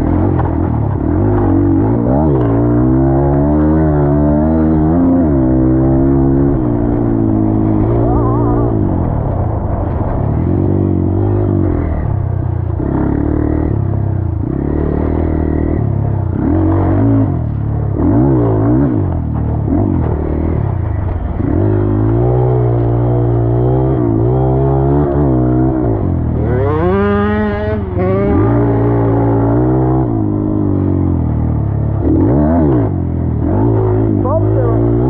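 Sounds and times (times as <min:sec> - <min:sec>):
dirt bike engine revving: 0:00.0 - 0:09.7, 0:10.3 - 0:35.0.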